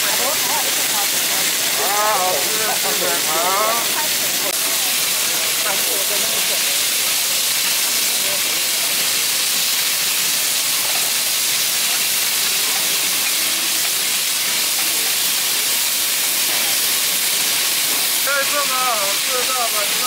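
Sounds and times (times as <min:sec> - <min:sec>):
meat sizzling on griddle: 0:00.0 - 0:20.0.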